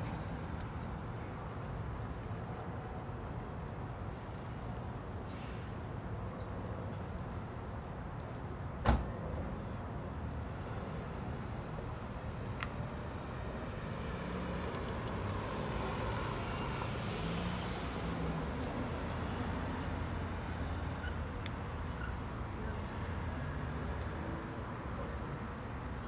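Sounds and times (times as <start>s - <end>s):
cars driving slowly: 0.0s - 26.0s.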